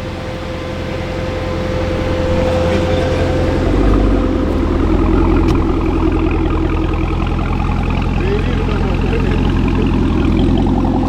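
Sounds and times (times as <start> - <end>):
car engine running hard: 0.0 - 11.0
supercharger whine: 0.0 - 11.0.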